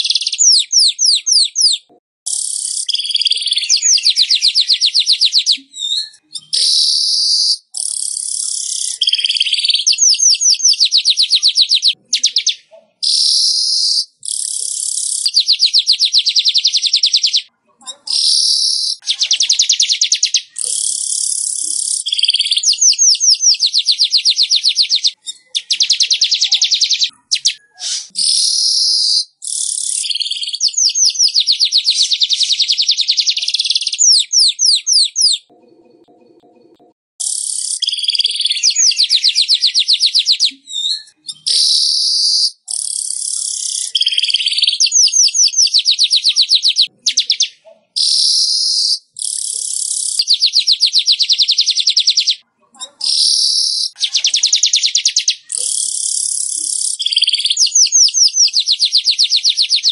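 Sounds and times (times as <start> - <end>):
weaver bird song: 0.0 - 52.4, 53.0 - 59.9.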